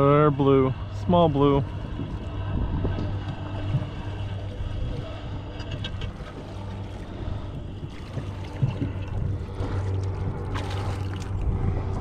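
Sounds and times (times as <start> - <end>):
steady low rumble: 0.0 - 12.0
water lapping boat hull: 0.0 - 12.0
wind buffeting microphone: 0.0 - 12.0.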